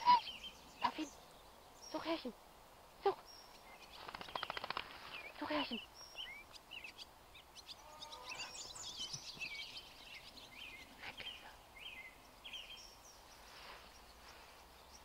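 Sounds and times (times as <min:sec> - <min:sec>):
songbirds chirping and twittering: 0:00.0 - 0:15.0.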